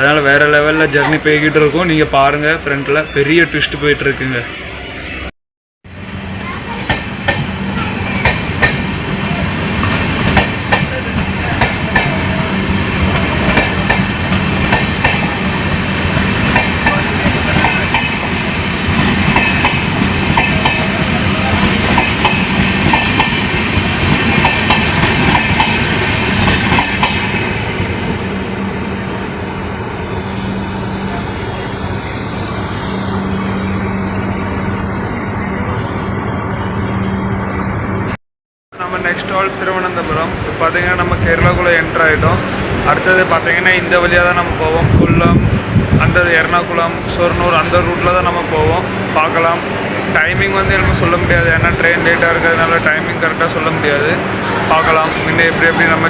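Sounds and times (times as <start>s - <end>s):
train rumbling and humming: 0.0s - 5.3s, 5.9s - 38.2s, 38.8s - 56.0s.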